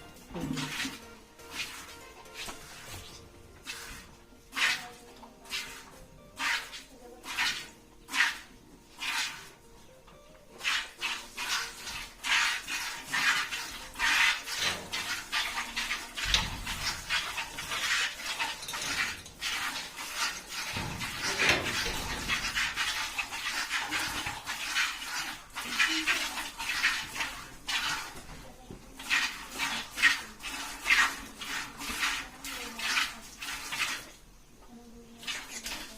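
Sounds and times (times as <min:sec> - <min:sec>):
milk squirting into a pail: 0:00.2 - 0:09.6, 0:10.6 - 0:34.2.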